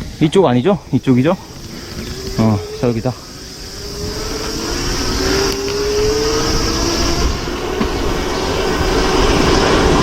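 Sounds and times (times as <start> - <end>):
wind rushing over microphone: 0.0 - 10.0
electric motor whine: 1.0 - 10.0.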